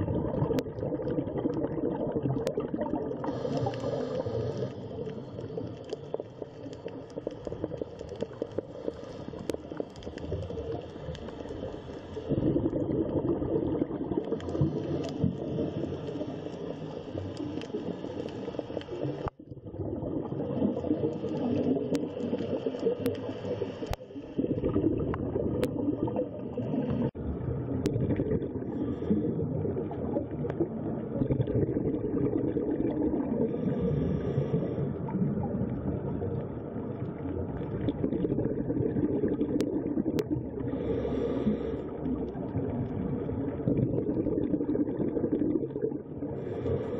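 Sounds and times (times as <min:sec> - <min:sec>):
muffled underwater rush: 0:00.0 - 0:46.9.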